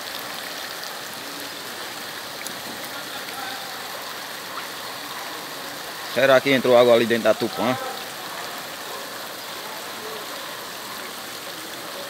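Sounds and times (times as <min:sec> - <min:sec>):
floodwater hissing: 0:00.0 - 0:12.0.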